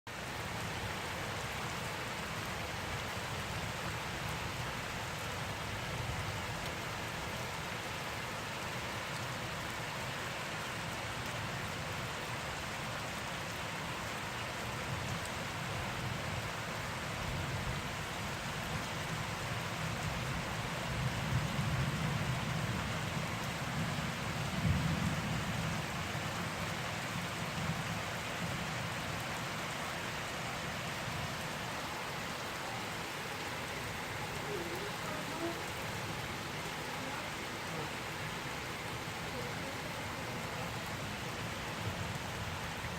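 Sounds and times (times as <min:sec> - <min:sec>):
heavy rain: 0:00.1 - 0:42.9.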